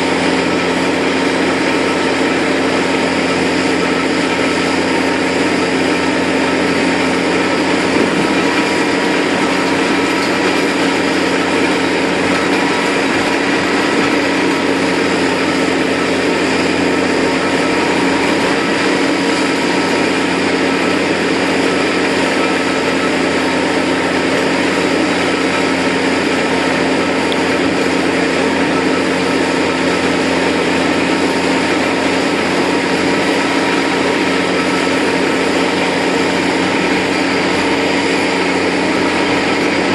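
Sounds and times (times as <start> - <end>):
slurry mixer engine drone: 0.0 - 39.9.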